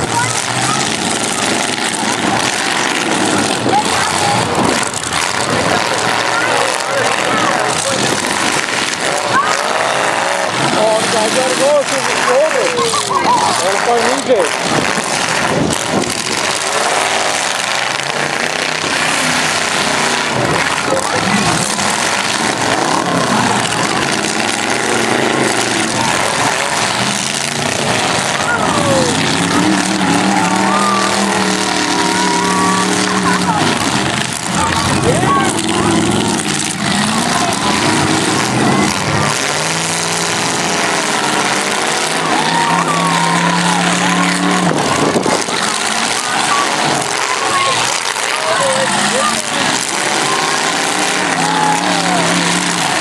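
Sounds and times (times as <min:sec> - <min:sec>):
car engines revving unevenly: 0:00.0 - 0:53.0
crowd voices: 0:00.0 - 0:53.0.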